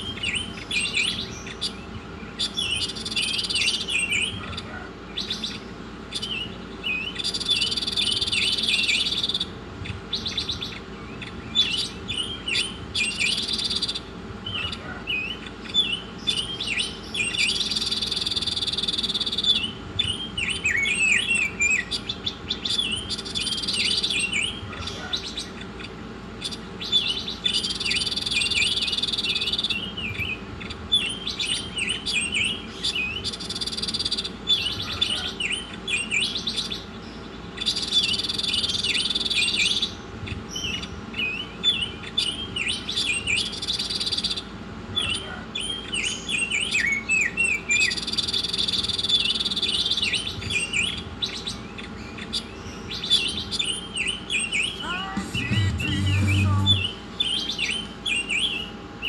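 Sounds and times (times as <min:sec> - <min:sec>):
faint low hum: 0:00.0 - 0:58.7
buzzy bird trill: 0:00.0 - 0:58.8
songbird singing: 0:00.0 - 0:59.0.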